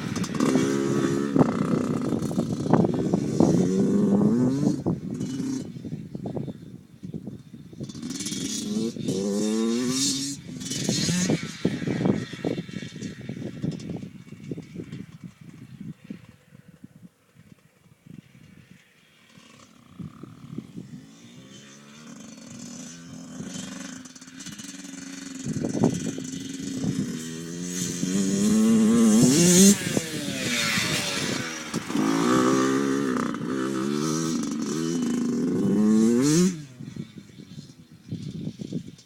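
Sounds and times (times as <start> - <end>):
dirt bike engine revving: 0.0 - 5.8, 7.7 - 16.2, 18.2 - 39.0.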